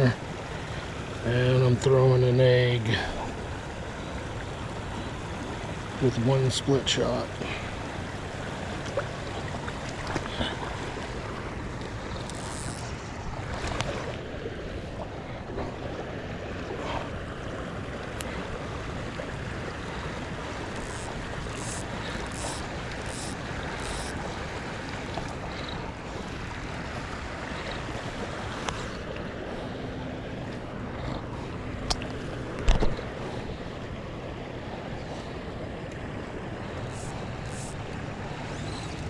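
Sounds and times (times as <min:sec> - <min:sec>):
river water rushing: 0:00.0 - 0:39.0.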